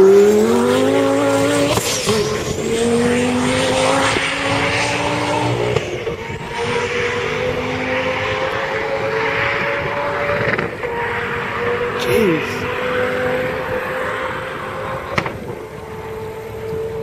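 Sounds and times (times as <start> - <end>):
sports car accelerating hard: 0.0 - 17.0.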